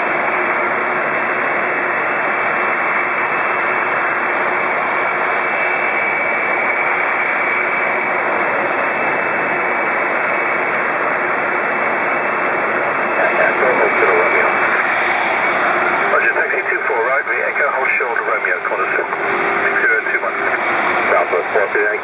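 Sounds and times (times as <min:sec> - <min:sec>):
jet turbine rush with whine: 0:00.0 - 0:22.0.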